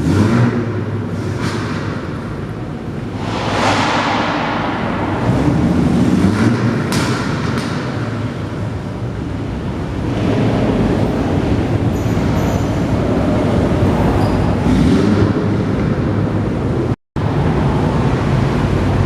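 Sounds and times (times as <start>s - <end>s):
car engines rumbling past: 0.0s - 19.0s.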